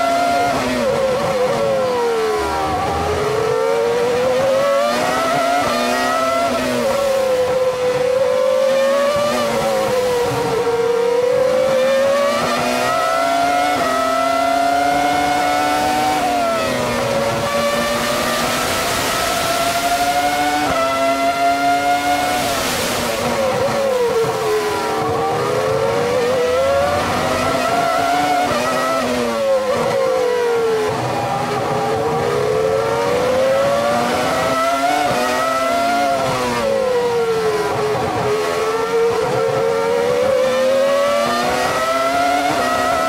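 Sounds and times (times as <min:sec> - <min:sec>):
racing car engine revving: 0:00.0 - 0:43.0.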